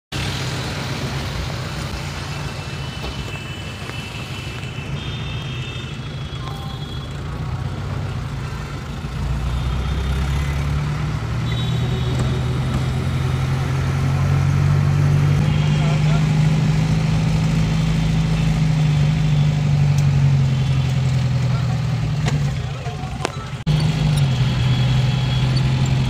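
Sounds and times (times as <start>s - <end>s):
vehicle engines droning: 0.1s - 26.0s.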